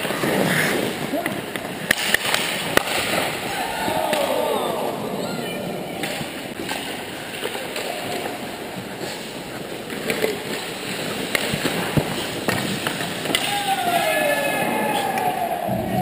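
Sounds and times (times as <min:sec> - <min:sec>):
hockey sticks and puck clacking: 0:00.0 - 0:04.9, 0:05.6 - 0:16.0
skate blades scraping ice: 0:00.0 - 0:04.9, 0:05.6 - 0:15.7.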